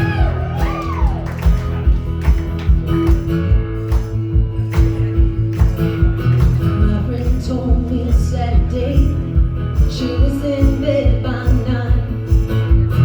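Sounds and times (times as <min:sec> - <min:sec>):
bass: 0:00.0 - 0:13.0
strummed acoustic guitar: 0:00.0 - 0:13.0.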